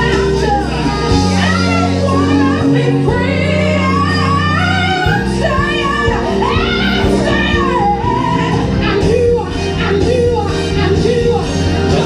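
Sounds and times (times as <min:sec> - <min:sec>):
person singing: 0:00.0 - 0:12.0
sustained bass notes: 0:00.0 - 0:12.0.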